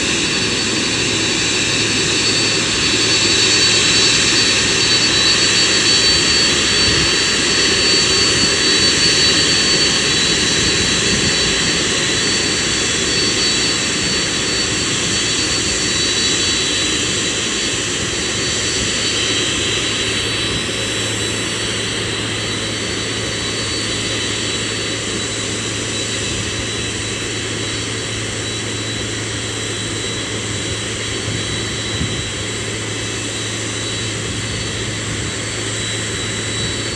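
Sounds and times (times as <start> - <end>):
jet engines whining: 0.0 - 36.9.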